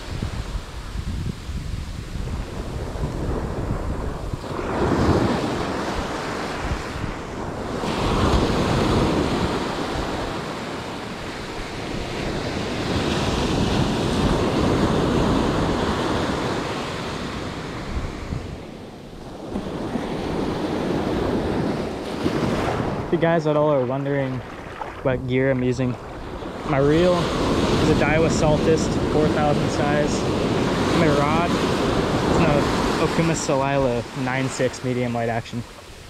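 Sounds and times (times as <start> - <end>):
wind buffeting microphone: 0.0 - 34.2
ocean surf breaking on beach: 0.0 - 36.0.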